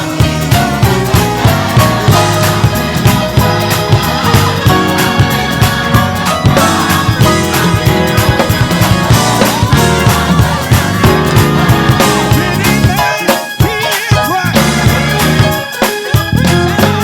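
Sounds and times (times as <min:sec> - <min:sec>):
bass: 0:00.0 - 0:13.1, 0:14.3 - 0:17.0
drums: 0:00.0 - 0:17.0
keyboard lines: 0:00.0 - 0:17.0
organ: 0:00.0 - 0:17.0.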